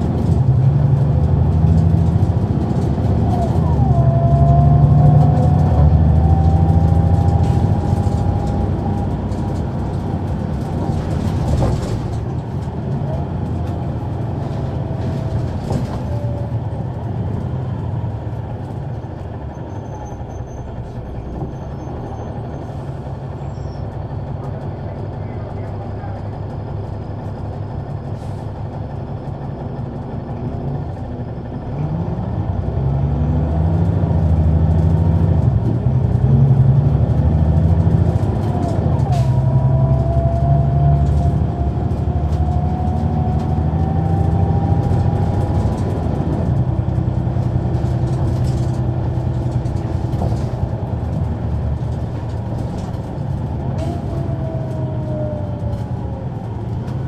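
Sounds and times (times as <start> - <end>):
bus diesel engine pulling away: 0.0 - 57.0.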